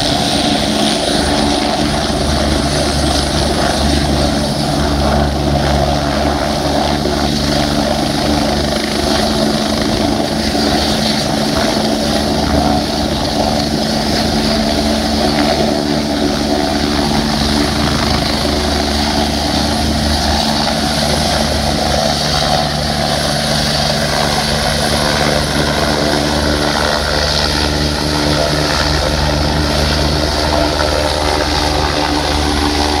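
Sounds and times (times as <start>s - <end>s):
helicopter rotor and turbines: 0.0s - 33.0s.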